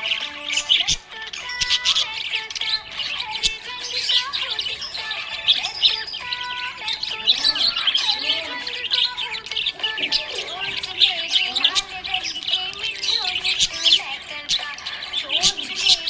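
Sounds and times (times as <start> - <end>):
budgerigars chirping and warbling: 0.0 - 16.0
faint background music: 0.0 - 16.0.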